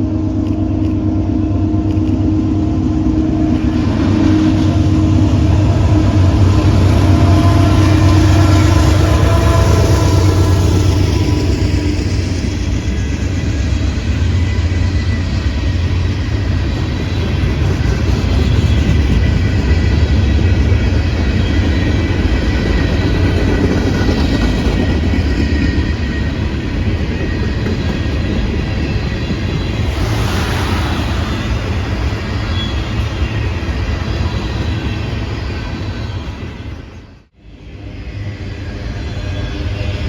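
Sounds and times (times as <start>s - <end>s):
freight train wheels rumbling on track: 0.0s - 40.0s.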